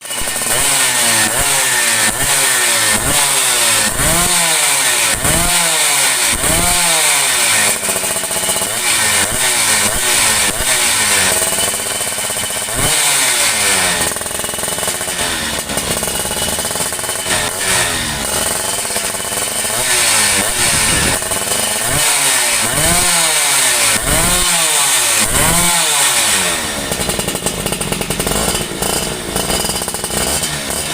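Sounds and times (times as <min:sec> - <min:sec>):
two-stroke engine blipped: 0:00.0 - 0:30.9.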